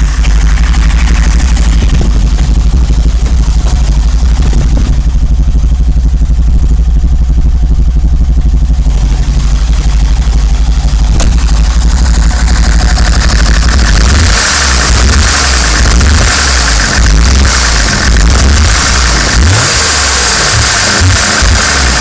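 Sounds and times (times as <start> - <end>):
engine running rough with misfire: 0.0 - 22.0
sharp exhaust pop: 0.0 - 22.0.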